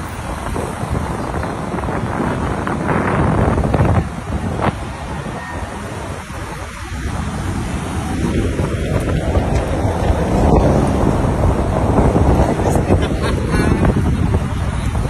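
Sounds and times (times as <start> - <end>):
cars passing close by: 0.0 - 15.0
wind buffeting microphone: 0.0 - 15.0.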